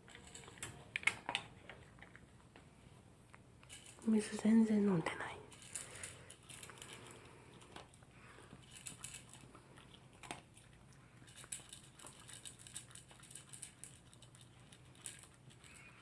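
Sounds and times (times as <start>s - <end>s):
dog eating kibble crunches: 0.0s - 2.6s, 3.2s - 4.4s, 5.1s - 16.0s.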